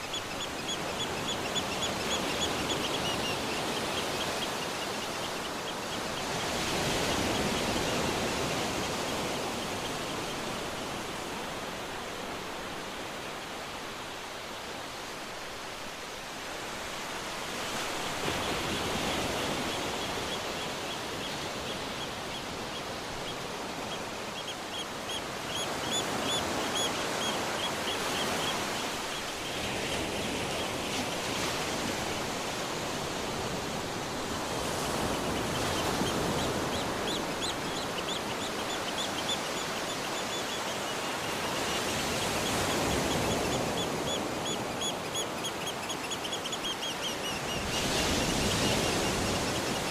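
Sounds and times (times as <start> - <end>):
birds calling: 0.0 - 11.8, 17.6 - 49.9
surf washing on a beach: 0.0 - 49.9.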